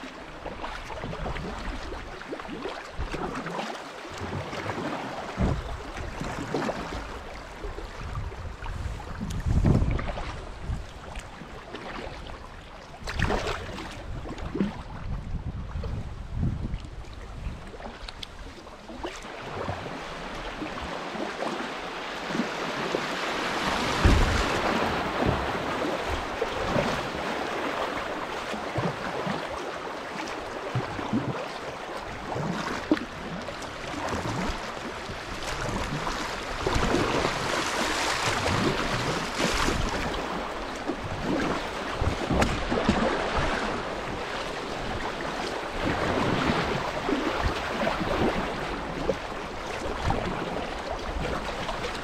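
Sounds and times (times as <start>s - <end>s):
paddle blades splashing: 0.0s - 16.0s, 16.8s - 52.0s.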